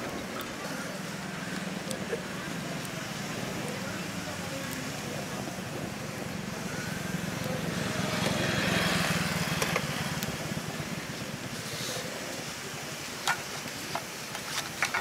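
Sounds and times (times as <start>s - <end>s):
low engine hum: 0.0s - 12.9s.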